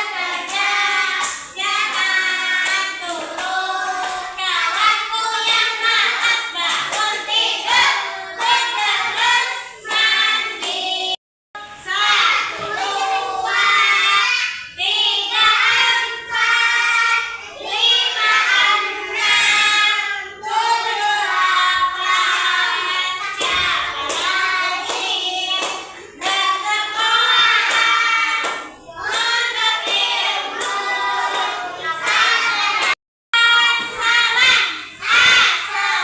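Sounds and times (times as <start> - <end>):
children singing: 0.0 - 36.0.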